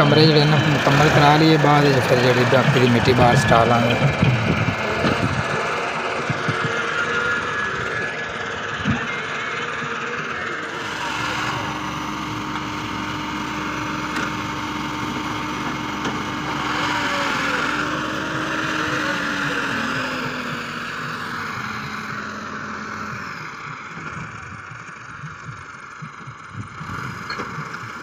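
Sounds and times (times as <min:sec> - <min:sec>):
tractor engine under load: 0:00.0 - 0:28.0.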